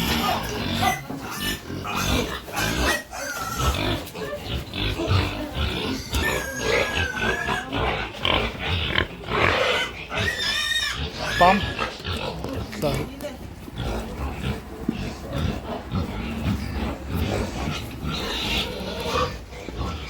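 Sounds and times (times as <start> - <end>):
pigs grunting and squealing: 0.0 - 20.0.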